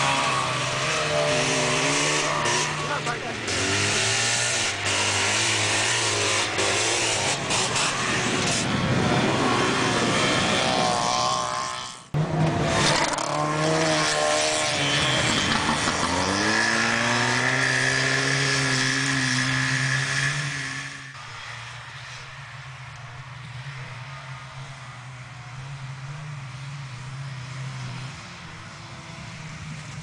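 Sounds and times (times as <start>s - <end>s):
two-stroke engines racing: 0.0s - 30.0s.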